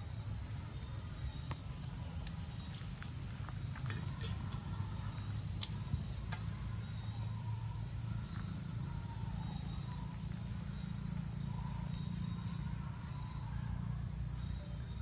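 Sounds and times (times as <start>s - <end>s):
steady low rumble: 0.0s - 14.5s
dry leaves and twigs crackling: 0.2s - 15.0s.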